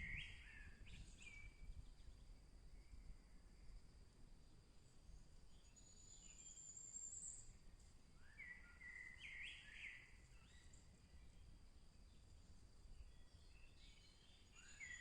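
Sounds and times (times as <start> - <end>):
faint songbirds singing: 0.0 - 15.0.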